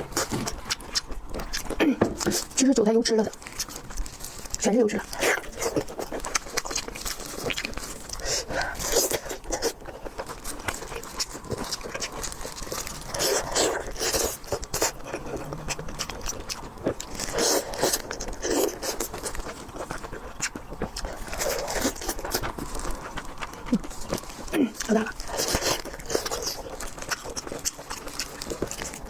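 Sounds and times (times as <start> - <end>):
crunching and chewing: 0.0 - 29.0.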